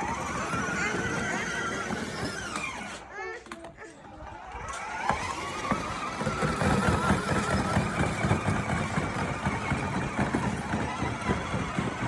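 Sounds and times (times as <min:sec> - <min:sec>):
toy car motor whine: 0:00.0 - 0:12.0.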